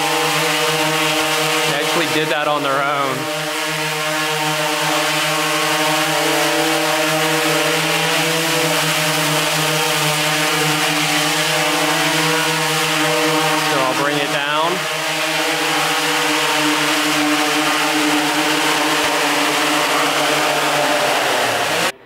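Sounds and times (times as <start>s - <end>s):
drone buzzing hum: 0.0s - 22.0s.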